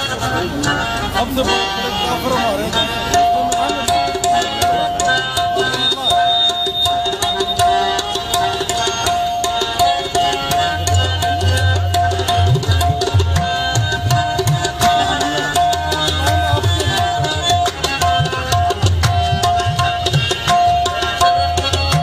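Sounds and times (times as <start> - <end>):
harmonium held note: 0.0 - 22.0
tabla rhythm: 0.0 - 22.0.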